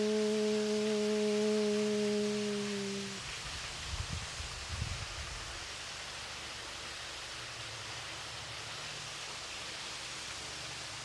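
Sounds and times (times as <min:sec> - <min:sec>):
small waterfall rushing: 0:00.0 - 0:11.0.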